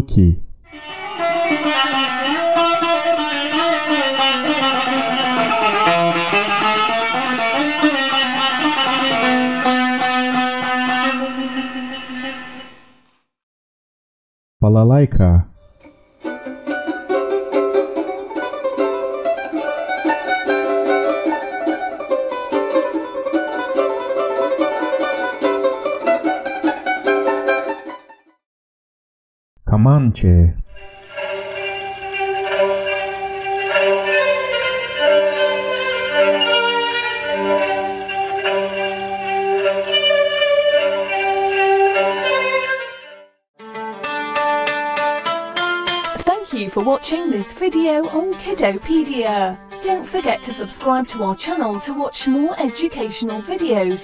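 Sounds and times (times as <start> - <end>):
bouzouki melody: 0.8 - 12.7, 15.8 - 28.2, 30.8 - 54.0.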